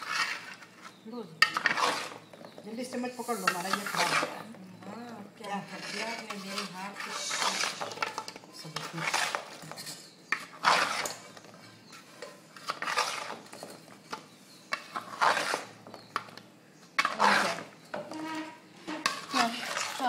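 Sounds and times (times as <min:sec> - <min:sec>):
metal spoon scraping metal pan: 0:00.0 - 0:04.6, 0:05.4 - 0:16.3, 0:17.0 - 0:20.0.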